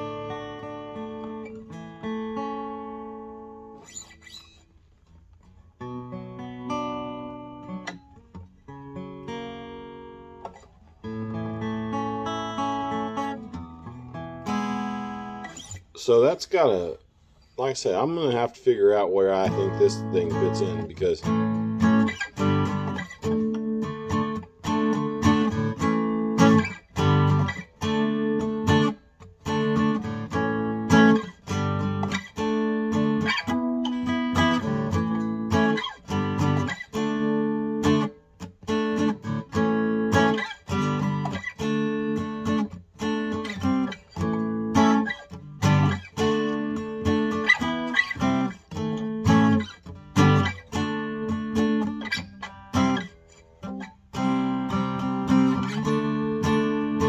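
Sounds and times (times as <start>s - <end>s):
acoustic guitar strumming chords: 0.0s - 17.0s, 17.6s - 57.0s.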